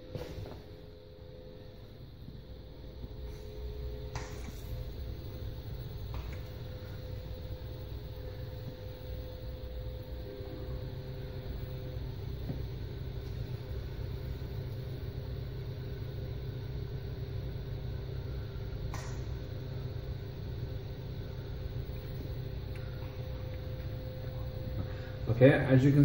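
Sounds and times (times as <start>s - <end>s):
circulator pumps humming: 0.0s - 26.0s
faint steady tones: 0.0s - 26.0s.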